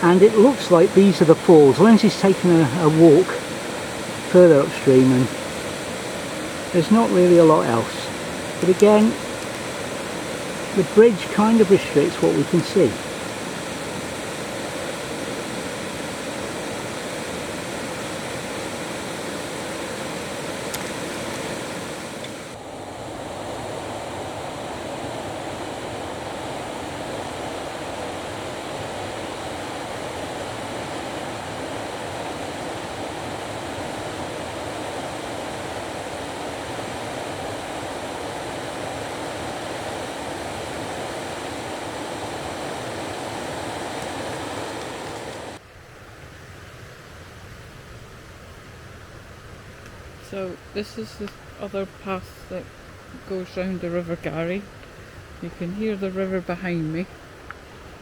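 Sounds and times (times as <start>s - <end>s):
river rushing over rapids: 0.0s - 55.5s.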